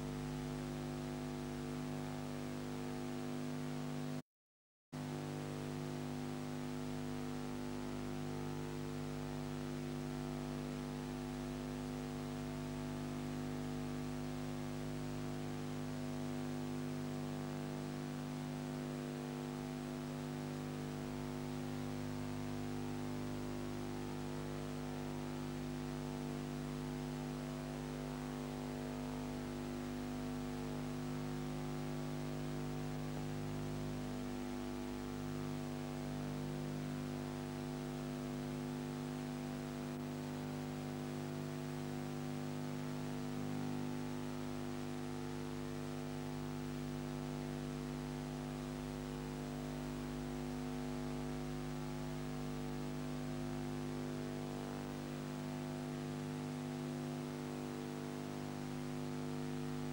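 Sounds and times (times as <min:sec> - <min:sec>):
electrical hum with constant tones: 0:00.0 - 0:04.2, 0:05.0 - 0:59.9.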